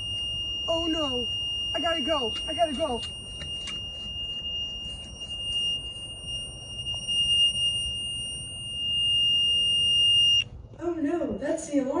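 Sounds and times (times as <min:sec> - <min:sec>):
high-pitched buzzer tone: 0:00.0 - 0:10.4.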